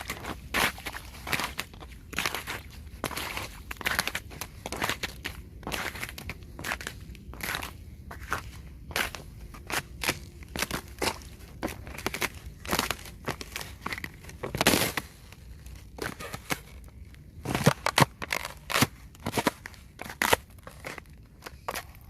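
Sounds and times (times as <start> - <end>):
taps on icy snow: 0.0 - 15.1, 17.4 - 22.0.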